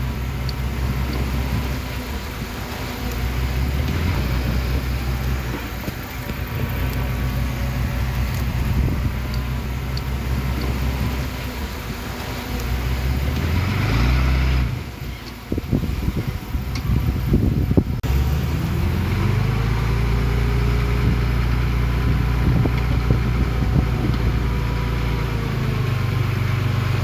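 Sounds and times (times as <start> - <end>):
diesel engine droning under load: 0.0 - 27.0.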